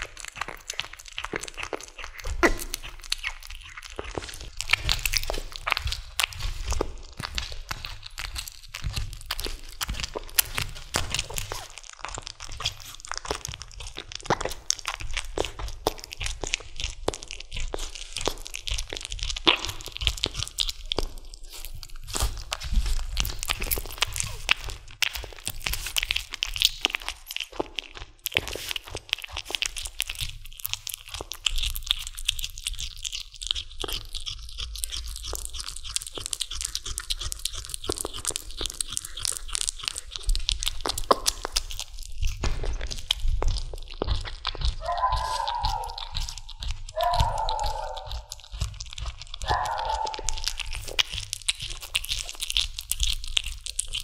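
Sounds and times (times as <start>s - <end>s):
kitten chewing bone: 0.0s - 54.0s.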